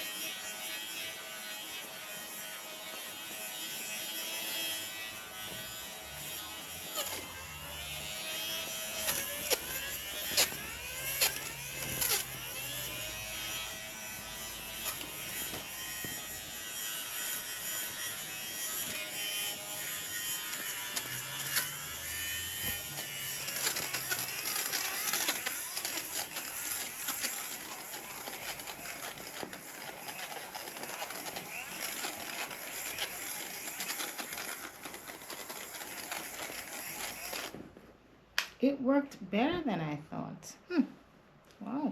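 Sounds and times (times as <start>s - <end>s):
electric fabric shaver buzzing: 0.0s - 37.6s.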